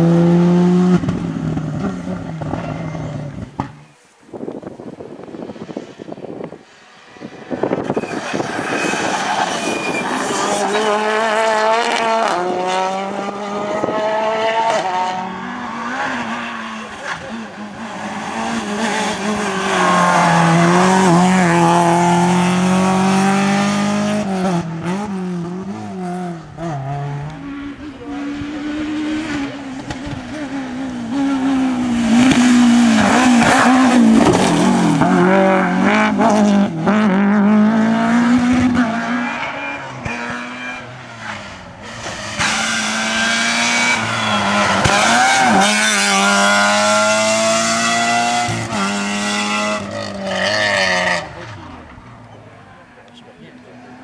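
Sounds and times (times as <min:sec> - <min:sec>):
rally car engines revving: 0:00.0 - 0:04.0, 0:05.2 - 0:54.0.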